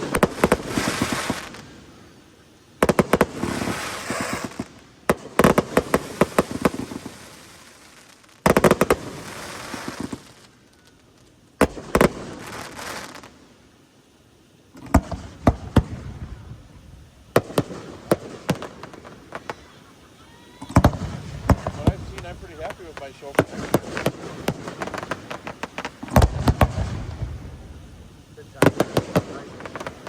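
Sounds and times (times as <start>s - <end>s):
fireworks bangs: 0.0s - 13.6s, 14.6s - 30.0s
fireworks crackling: 0.0s - 30.0s.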